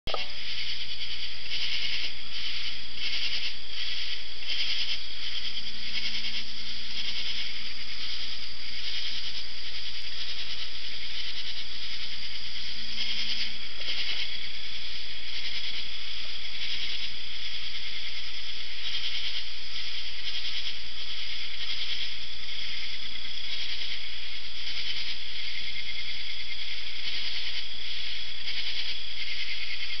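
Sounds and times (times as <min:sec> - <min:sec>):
katydids and insects calling: 0:00.0 - 0:30.0.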